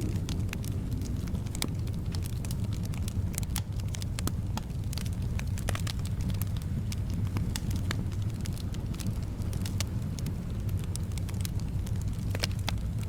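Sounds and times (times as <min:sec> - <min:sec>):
soft wind rumble: 0:00.0 - 0:13.0
wood fire popping and snapping: 0:00.0 - 0:13.0.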